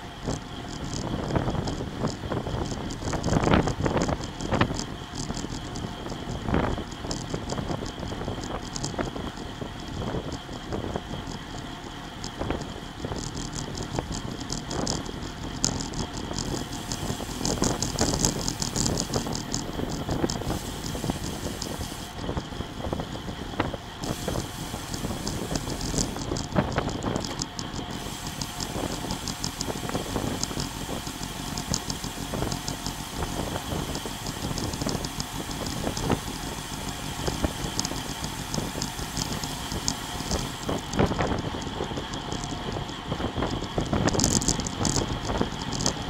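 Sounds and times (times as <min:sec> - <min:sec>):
bicycle freehub ticking: 0:00.0 - 0:46.0
bicycle tyre noise on asphalt: 0:00.0 - 0:46.0
wind rushing over microphone: 0:00.2 - 0:11.5, 0:12.2 - 0:46.0.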